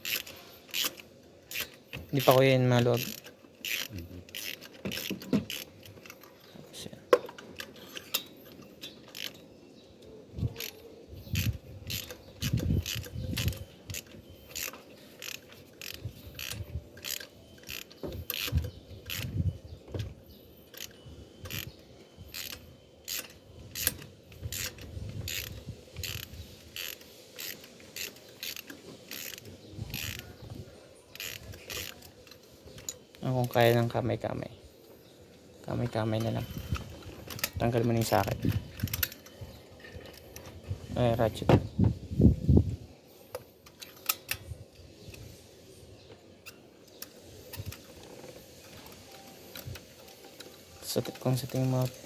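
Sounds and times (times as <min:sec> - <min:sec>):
ratchet wrench clicking: 0:00.0 - 0:06.4, 0:07.6 - 0:09.4, 0:10.4 - 0:19.6, 0:20.3 - 0:34.0, 0:35.7 - 0:41.3, 0:42.4 - 0:45.4, 0:46.4 - 0:52.0.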